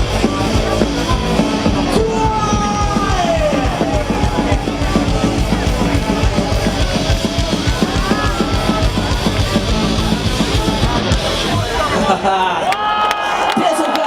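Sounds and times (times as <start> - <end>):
fast busy drumming: 0.0 - 12.5
distorted guitars: 0.0 - 12.7
live rock band playing: 0.0 - 12.7.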